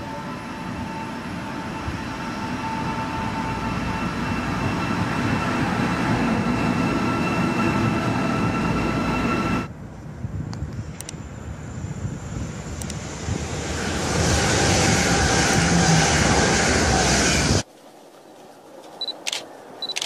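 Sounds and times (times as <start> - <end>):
train passing rush: 0.0 - 17.7.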